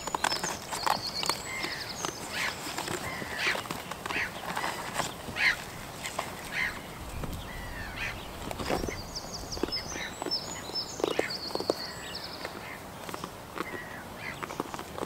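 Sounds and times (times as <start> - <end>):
small bird chirping: 0.0 - 5.7, 6.5 - 14.9
goats' steps and knocks on grass: 0.0 - 7.6, 8.3 - 15.0.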